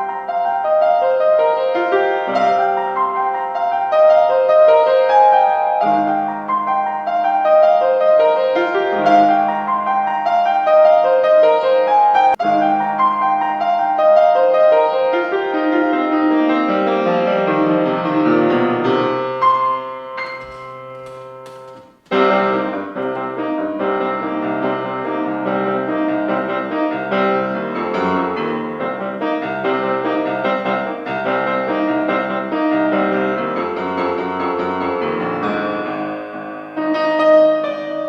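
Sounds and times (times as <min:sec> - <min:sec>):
piano piece: 0:00.0 - 0:38.0.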